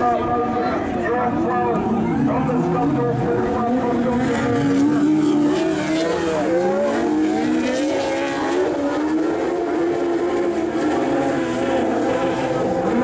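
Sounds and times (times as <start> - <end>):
racing car engines revving: 0.0 - 13.0.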